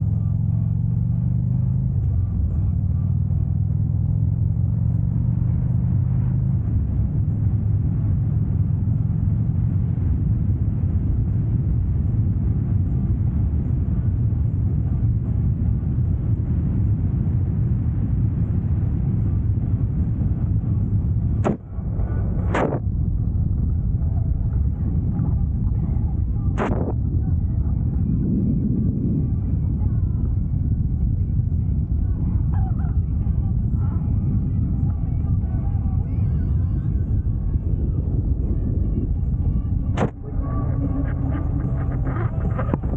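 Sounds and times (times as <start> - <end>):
constant noisy rush: 0.0 - 42.9
motorcycle engine running: 0.0 - 42.9.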